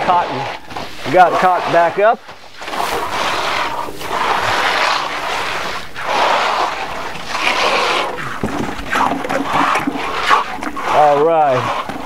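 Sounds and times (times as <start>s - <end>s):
trowels scraping wet plaster: 0.0s - 12.0s.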